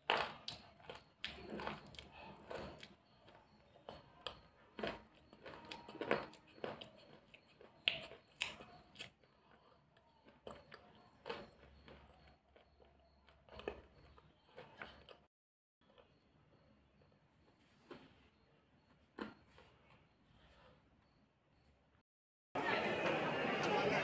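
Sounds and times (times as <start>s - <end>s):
person chewing crunchy food: 0.0s - 21.2s.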